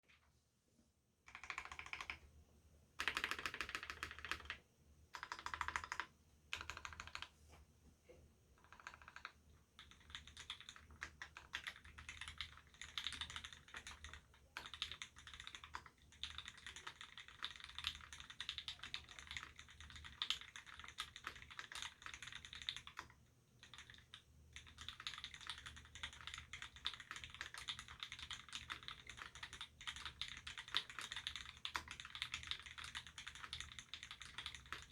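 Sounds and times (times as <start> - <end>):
typing on mechanical keyboard: 1.3 - 2.2, 3.0 - 7.3, 8.6 - 34.9.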